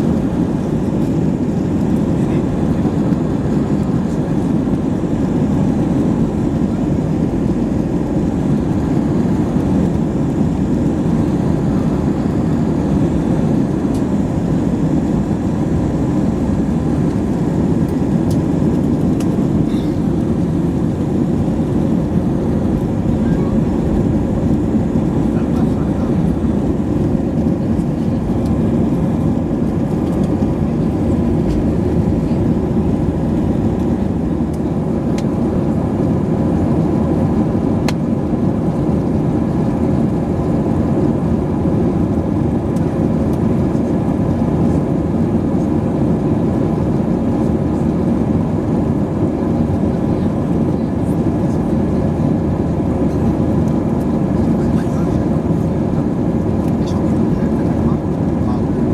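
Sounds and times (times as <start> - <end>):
airflow over fuselage: 0.0 - 58.9
jet engines roaring: 0.0 - 58.9.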